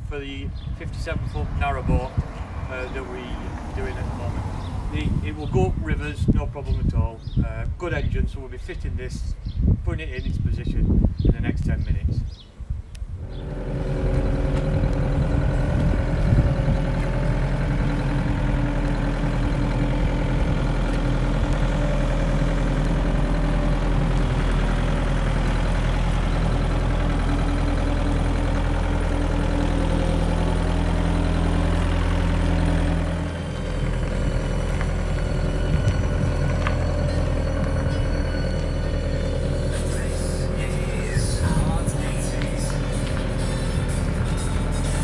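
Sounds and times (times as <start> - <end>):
forklift engine running: 0.0 - 5.8, 13.1 - 45.0.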